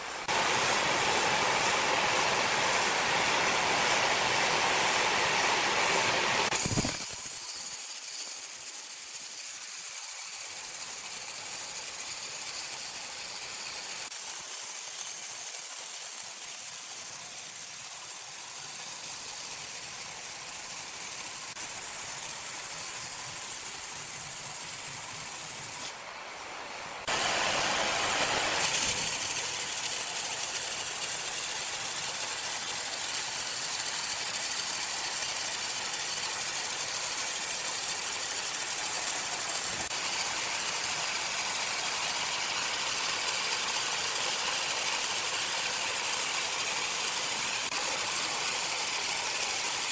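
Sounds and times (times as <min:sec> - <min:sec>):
sawmill machinery hissing: 0:00.0 - 0:49.9.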